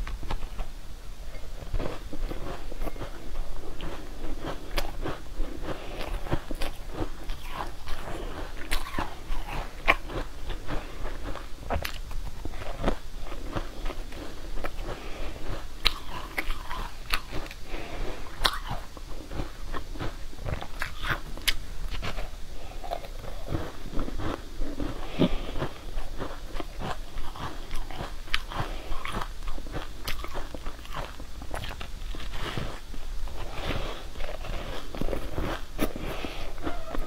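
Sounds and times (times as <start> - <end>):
crisp crunching and chewing: 1.6 - 37.0.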